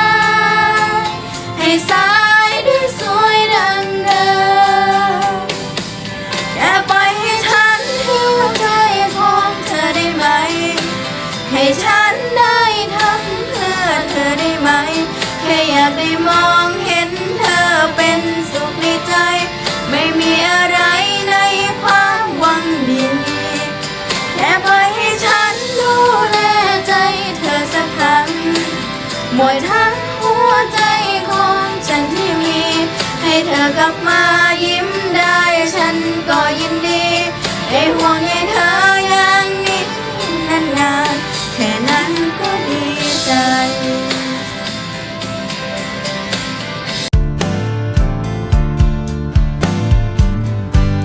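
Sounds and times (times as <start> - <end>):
female voice singing pop ballad: 0.0 - 45.7
backing track: 0.0 - 51.0.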